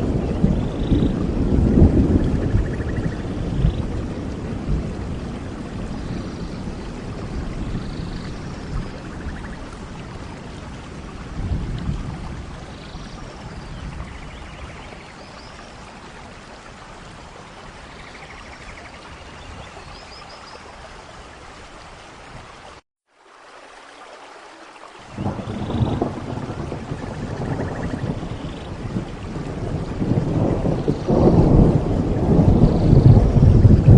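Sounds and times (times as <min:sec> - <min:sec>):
low thunder rumbles: 0:00.0 - 0:20.0, 0:25.1 - 0:33.9
steady rain: 0:00.0 - 0:33.9.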